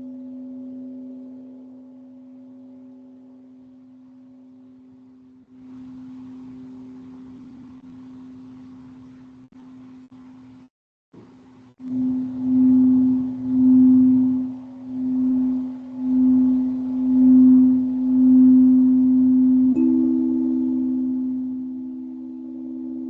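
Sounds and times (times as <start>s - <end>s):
higher singing bowl tone: 0.0s - 9.4s, 11.8s - 23.0s
singing bowl low tone: 0.0s - 10.4s, 11.8s - 23.0s.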